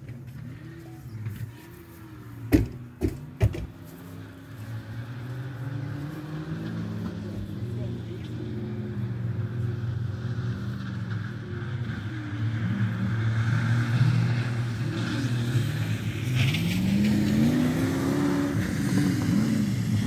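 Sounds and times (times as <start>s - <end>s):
rally car engine revving: 3.0s - 20.0s.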